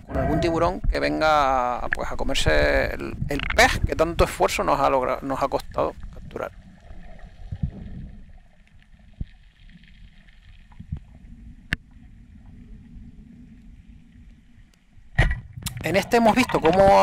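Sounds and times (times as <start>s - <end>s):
underwater rumble: 0.0s - 17.0s.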